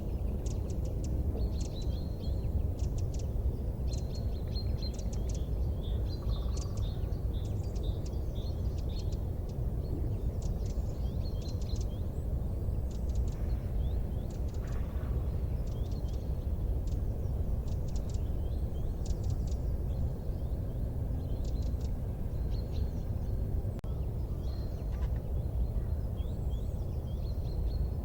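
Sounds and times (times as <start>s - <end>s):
small birds twittering: 0.0s - 28.0s
low rumble: 5.5s - 28.0s.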